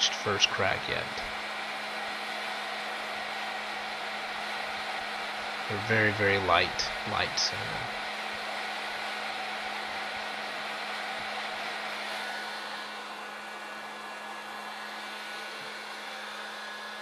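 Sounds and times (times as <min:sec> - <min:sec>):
popcorn popper blower running: 0:00.0 - 0:17.0.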